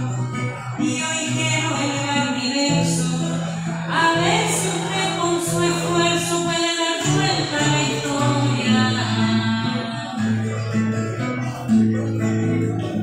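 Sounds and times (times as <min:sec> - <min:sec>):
woman singing: 0:00.0 - 0:10.6
acoustic guitar: 0:00.0 - 0:13.0.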